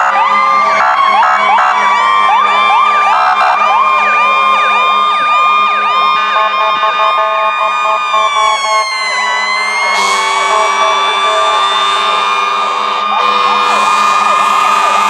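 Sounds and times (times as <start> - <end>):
sirens yelping: 0.0 - 15.0
steady siren tones: 0.0 - 15.0.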